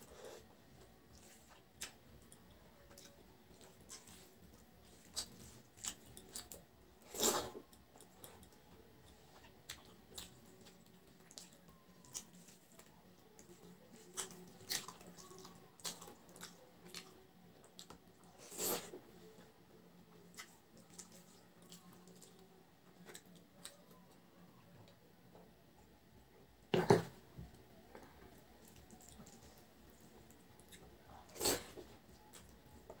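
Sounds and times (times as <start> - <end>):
person chewing food: 0.0 - 19.0, 20.3 - 24.0, 27.9 - 33.0.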